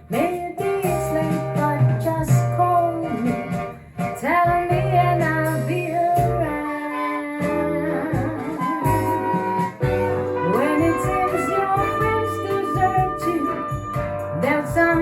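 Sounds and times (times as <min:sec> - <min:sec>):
bass line: 0:00.0 - 0:06.6, 0:07.4 - 0:15.0
guitar: 0:00.0 - 0:15.0
singing voice with gliding notes: 0:00.0 - 0:15.0.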